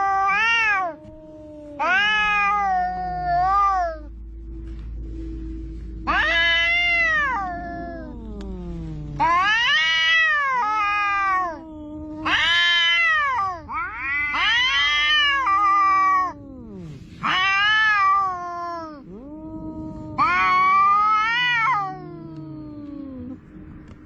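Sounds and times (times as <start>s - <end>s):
cats yowling: 0.0s - 4.2s, 6.0s - 23.4s.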